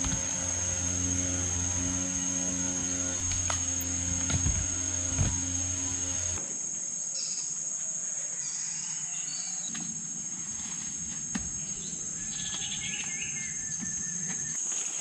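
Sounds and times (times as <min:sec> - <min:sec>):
insects droning high-pitched: 0:00.0 - 0:15.0.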